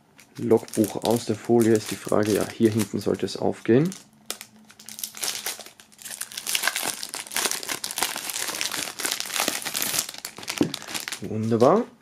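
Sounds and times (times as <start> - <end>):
plastic foil crinkling: 0.2 - 11.8.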